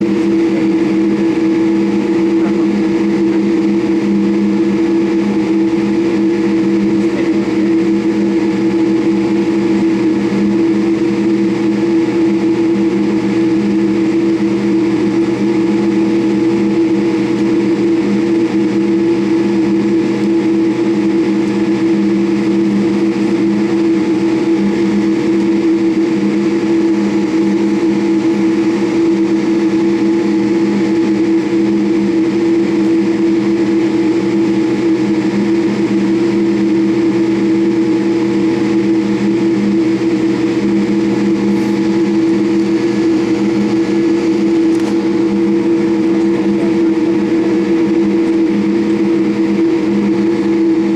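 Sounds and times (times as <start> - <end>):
aircraft cabin engine hum: 0.0 - 50.9.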